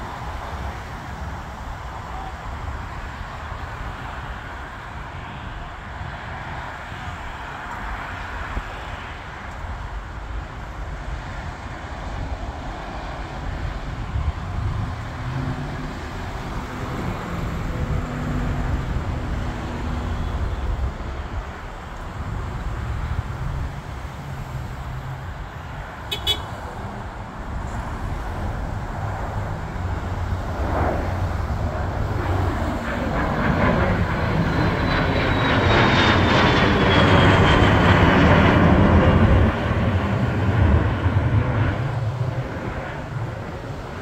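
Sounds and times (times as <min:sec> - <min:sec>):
jet engines passing overhead: 0:00.0 - 0:44.0.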